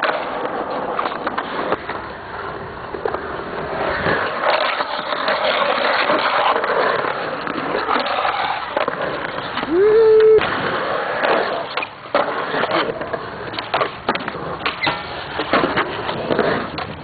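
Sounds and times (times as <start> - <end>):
skateboard clacks: 0.0 - 17.0
skateboard scraping edge: 0.0 - 17.0
skateboard wheels rolling on concrete: 0.0 - 17.0.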